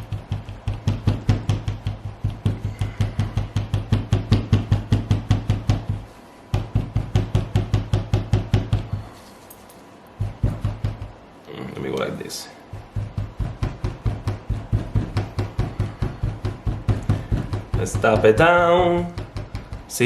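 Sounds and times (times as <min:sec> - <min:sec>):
soap mold tapping on surface: 0:00.0 - 0:09.0, 0:12.8 - 0:20.0.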